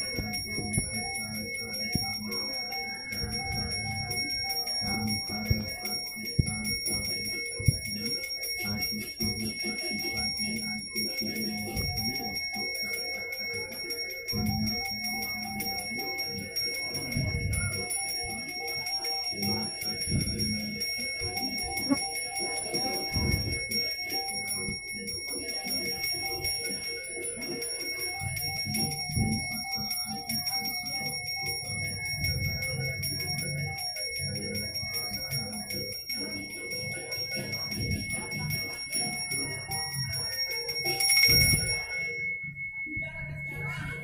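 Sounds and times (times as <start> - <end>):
bronze hand bell ringing: 0.0 - 42.7.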